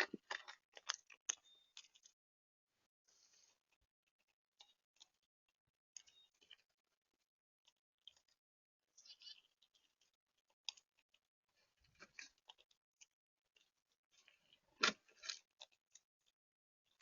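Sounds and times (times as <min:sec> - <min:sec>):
seeds being pecked and cracked: 0:00.0 - 0:02.2, 0:03.3 - 0:17.0.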